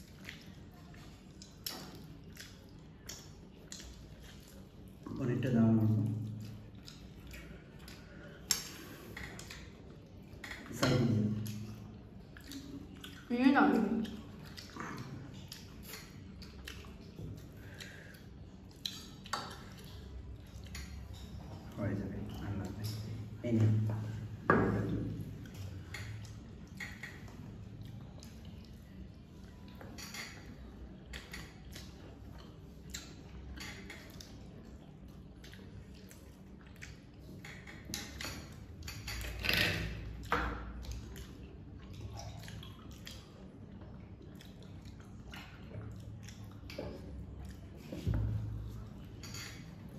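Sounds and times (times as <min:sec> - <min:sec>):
chewing: 0:00.0 - 0:05.2, 0:05.8 - 0:23.3, 0:25.0 - 0:49.9.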